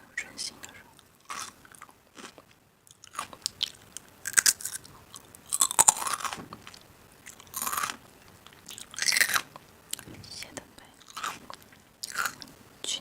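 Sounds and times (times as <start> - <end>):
crunchy food chewing: 0.6 - 10.1, 10.9 - 12.6.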